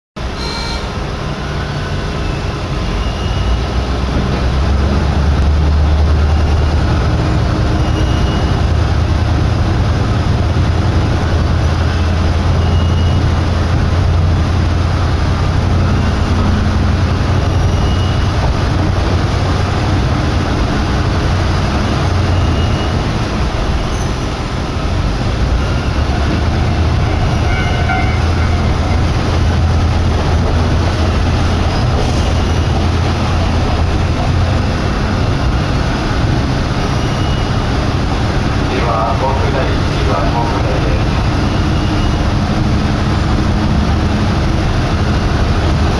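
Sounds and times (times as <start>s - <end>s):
railcar engine and wheels droning: 0.2s - 45.9s.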